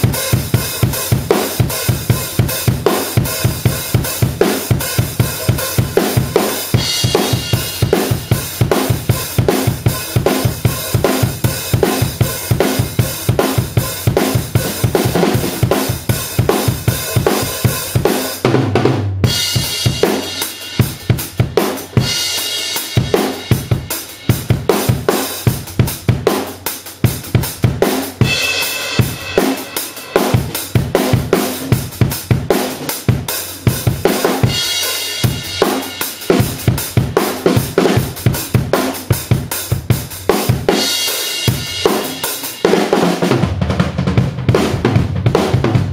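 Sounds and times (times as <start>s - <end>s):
drum kit groove: 0.0s - 45.9s.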